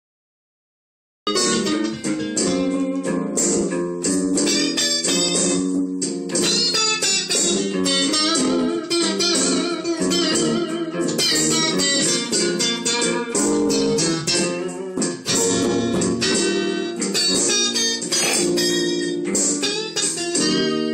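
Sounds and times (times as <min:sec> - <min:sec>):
electric guitars playing blues: 0:01.3 - 0:20.9.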